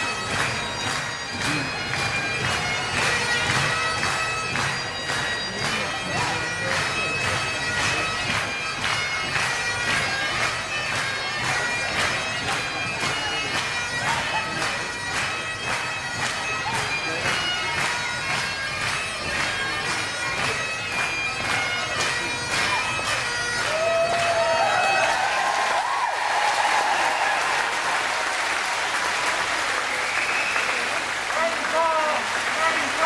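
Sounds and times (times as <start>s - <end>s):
bagpipes playing a tune: 0.0s - 25.8s, 30.0s - 33.0s.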